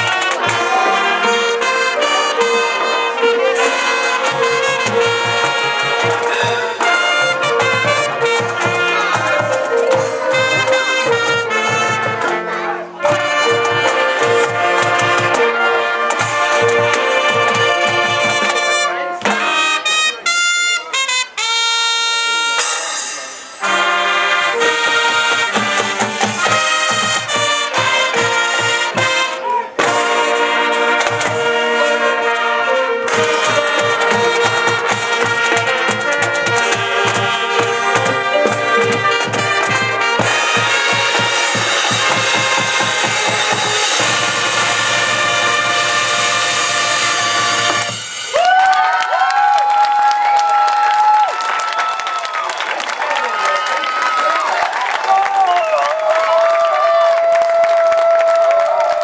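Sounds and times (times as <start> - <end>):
drums keeping steady beat: 0.0 - 21.5, 22.2 - 32.4, 33.0 - 49.2
marching band brass: 0.0 - 57.8.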